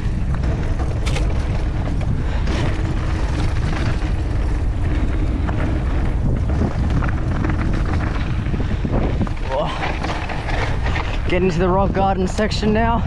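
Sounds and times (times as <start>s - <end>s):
bike clicks and rattles: 0.0s - 13.0s
bike tyre noise on dirt: 0.0s - 13.0s
wind rumbling on microphone: 0.0s - 13.0s.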